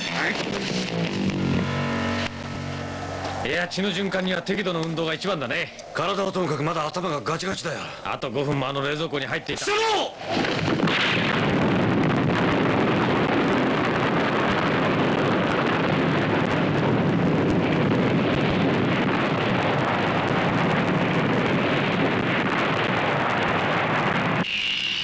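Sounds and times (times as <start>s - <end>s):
explosion rumbling roar: 0.0s - 7.4s, 10.2s - 24.5s.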